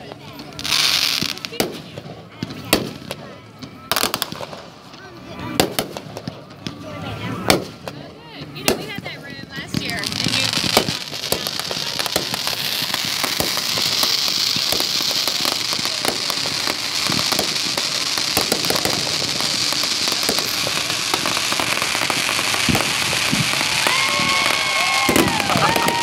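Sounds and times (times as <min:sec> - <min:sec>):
fireworks hiss: 0:00.0 - 0:03.3, 0:03.9 - 0:26.0
fireworks bangs: 0:00.0 - 0:26.0
fireworks crackling and popping: 0:00.0 - 0:26.0.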